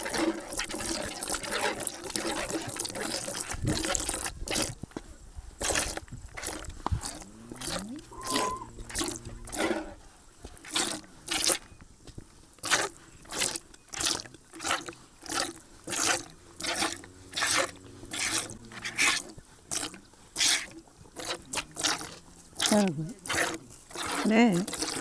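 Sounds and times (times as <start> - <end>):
milk squirting into a pail: 0.0 - 4.8, 5.6 - 9.7, 10.6 - 11.7, 12.6 - 25.0.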